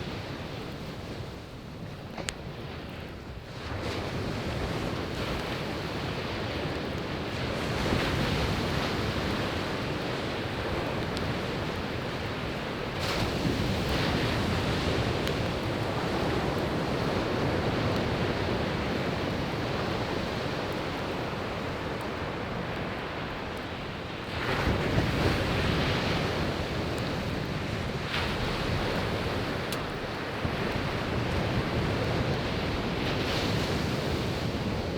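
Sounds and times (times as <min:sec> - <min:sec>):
campfire crackles: 0:00.0 - 0:34.9
waves breaking on beach: 0:00.0 - 0:34.9.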